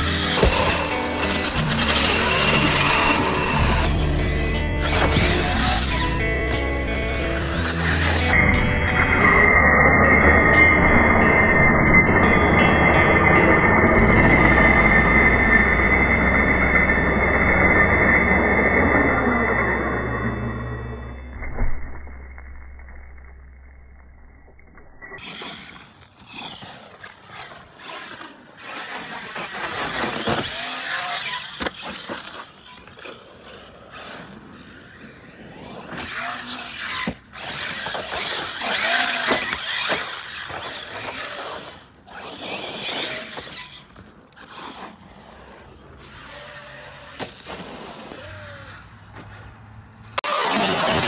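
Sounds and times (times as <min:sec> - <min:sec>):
rc car motor whine: 0:00.0 - 0:21.3, 0:25.2 - 0:49.4, 0:50.1 - 0:51.0.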